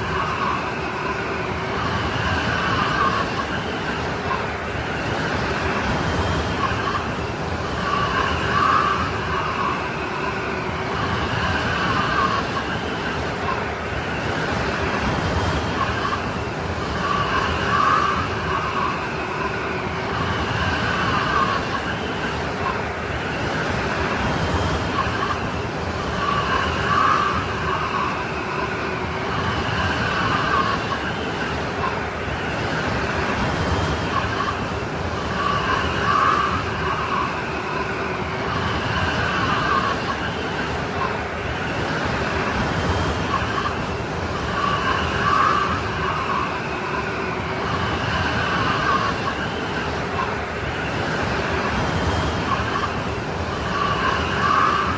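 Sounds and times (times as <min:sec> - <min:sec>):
strong wind howling: 0:00.0 - 0:54.9.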